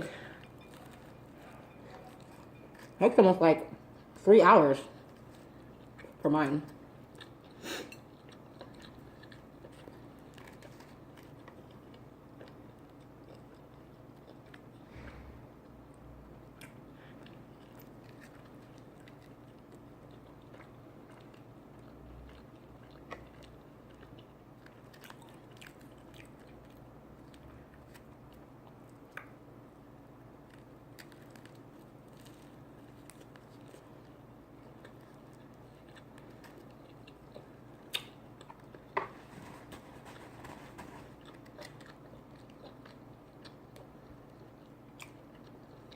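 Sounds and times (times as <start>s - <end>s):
person chewing and biting food: 0.0s - 3.0s, 7.0s - 15.8s, 16.4s - 29.4s, 30.4s - 45.9s
low steady hum: 0.0s - 45.9s.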